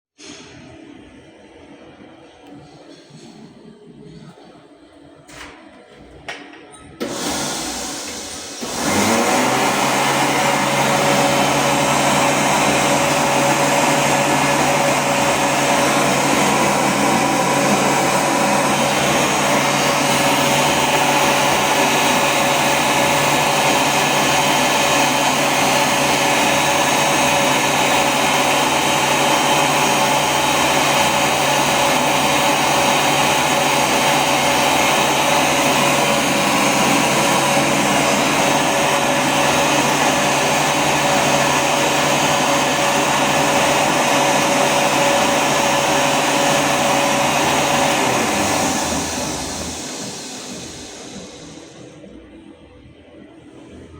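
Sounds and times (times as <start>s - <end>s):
hand dryer blowing air: 7.0s - 52.3s.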